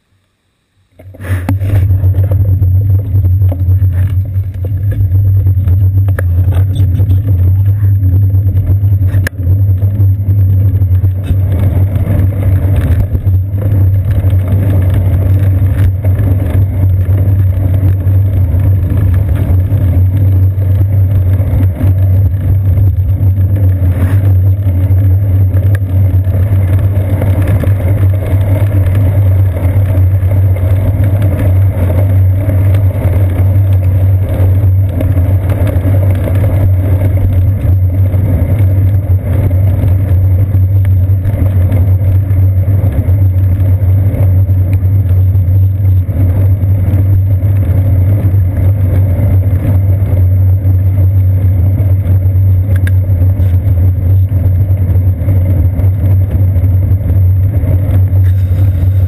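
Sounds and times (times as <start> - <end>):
road vibration rumble: 0.0 - 59.0
wind rumble: 1.0 - 59.0.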